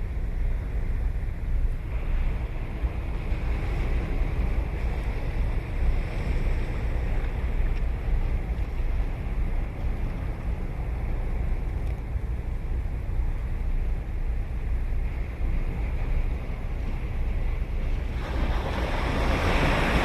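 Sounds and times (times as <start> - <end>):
wind on microphone: 0.0 - 20.0
ocean surf breaking: 1.8 - 13.8, 14.5 - 20.0.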